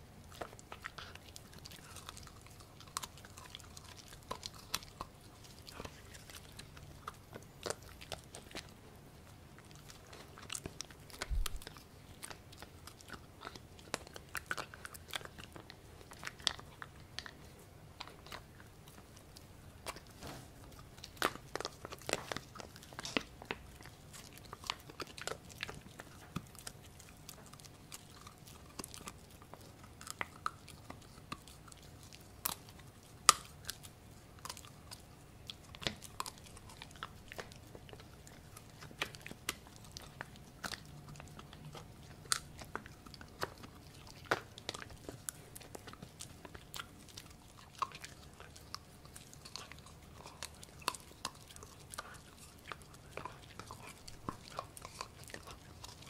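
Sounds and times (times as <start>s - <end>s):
puppy chewing a treat: 0.0s - 56.0s.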